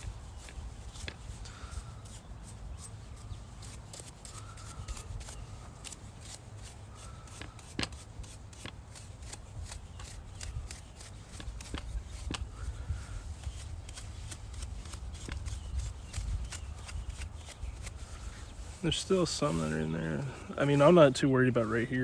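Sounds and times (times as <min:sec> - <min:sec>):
paintbrush strokes: 0:00.0 - 0:22.0.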